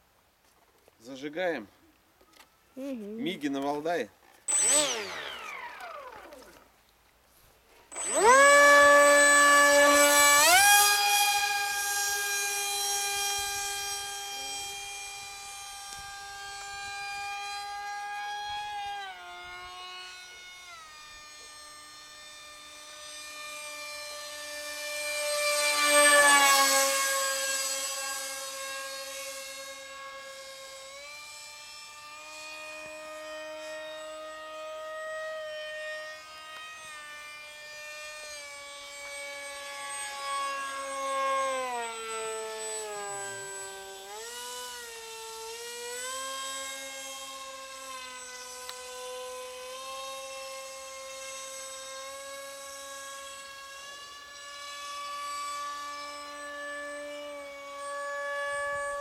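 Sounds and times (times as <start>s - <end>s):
model jet motor droning: 4.4s - 6.7s, 7.8s - 59.0s.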